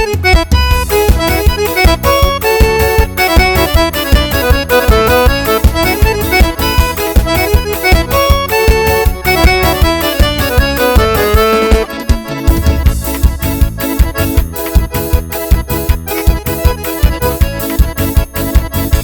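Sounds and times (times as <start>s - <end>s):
accordion melody: 0.0s - 19.0s
bass and drum beat: 0.0s - 19.0s.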